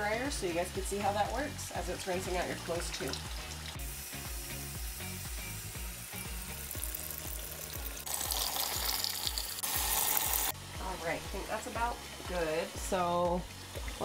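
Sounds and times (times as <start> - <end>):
background music: 0.0 - 14.0
water streaming into a tub: 1.0 - 14.0.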